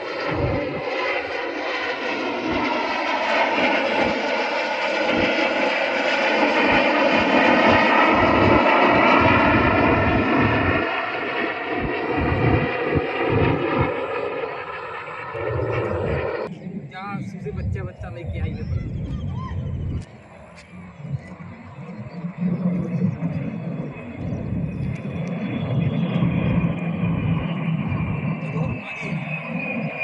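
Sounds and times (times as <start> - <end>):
aircraft engine flying overhead: 0.0 - 30.0.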